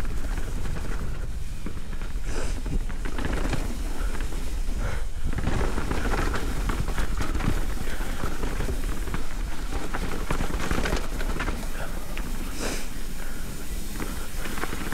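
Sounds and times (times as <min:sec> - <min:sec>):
bike rattles and clicks: 0:00.0 - 0:14.9
tyres on gravel: 0:00.0 - 0:14.9
wind rush on camera: 0:00.0 - 0:14.9.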